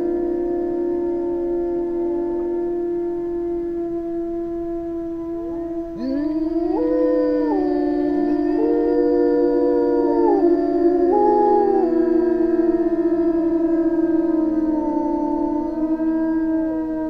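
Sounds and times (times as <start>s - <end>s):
droning ambient music: 0.0s - 17.0s
wolves howling: 0.0s - 17.0s.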